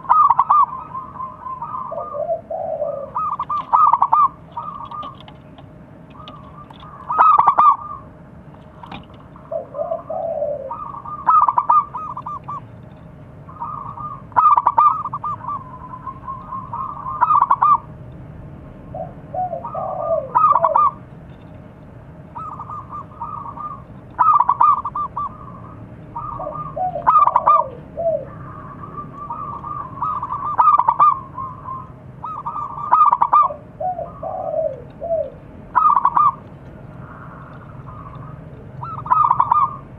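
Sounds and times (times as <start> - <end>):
dove cooing: 0.0 - 8.2, 8.9 - 17.9, 18.9 - 21.1, 22.3 - 39.9.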